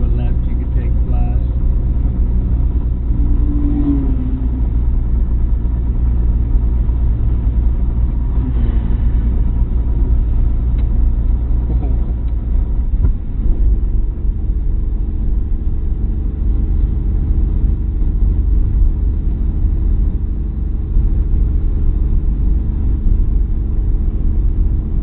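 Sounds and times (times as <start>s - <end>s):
car engine drone: 0.0s - 25.0s
road and tyre rumble: 0.0s - 25.0s.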